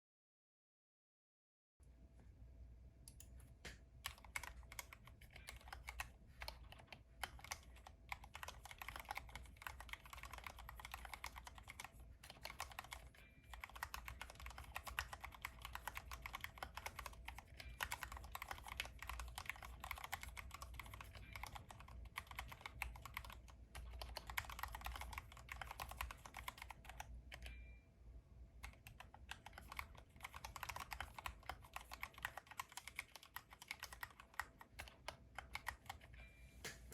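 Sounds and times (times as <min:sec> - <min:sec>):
mechanical keyboard typing: 0:04.0 - 0:27.6, 0:28.6 - 0:36.9.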